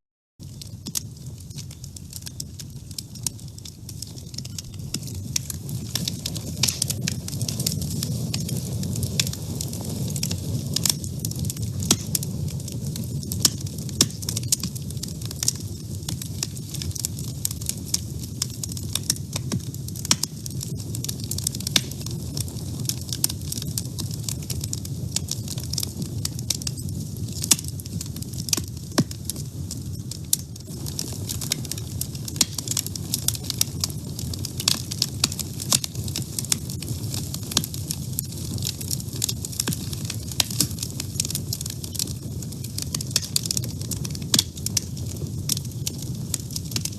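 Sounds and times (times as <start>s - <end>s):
low rumble of flames: 0.4s - 46.9s
wood fire crackling and popping: 0.4s - 46.9s.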